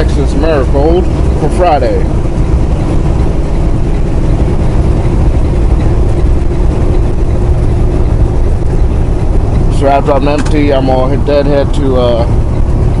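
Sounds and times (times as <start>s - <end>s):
road noise inside cab: 0.0s - 13.0s
truck diesel engine droning: 0.0s - 13.0s.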